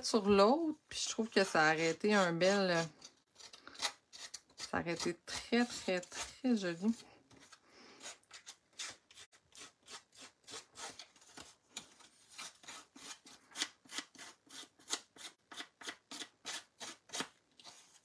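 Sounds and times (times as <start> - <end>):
scissors scraping card edge: 1.9 - 18.0.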